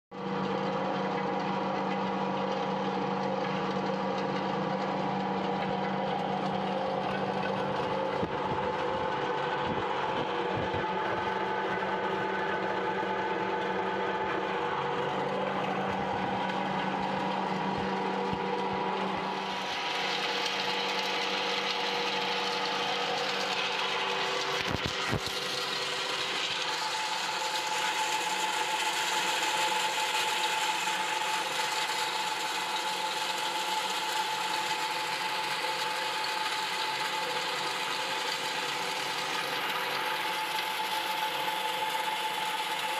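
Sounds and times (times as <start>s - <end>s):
hammer mill motor hum: 0.2s - 42.9s.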